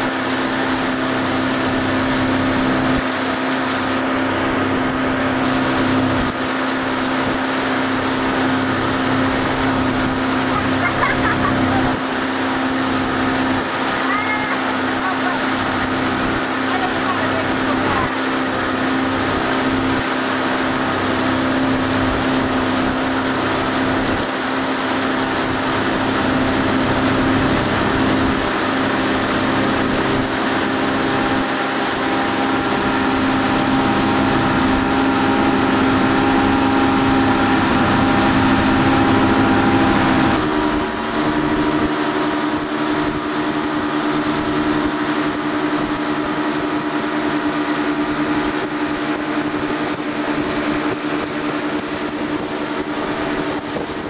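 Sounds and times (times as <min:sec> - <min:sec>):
motorboat engine running: 0:00.0 - 0:54.0.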